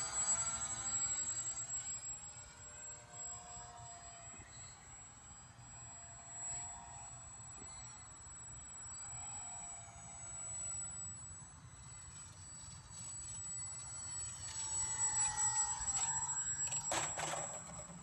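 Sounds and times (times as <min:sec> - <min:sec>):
model plane motor whining: 0:00.0 - 0:18.0.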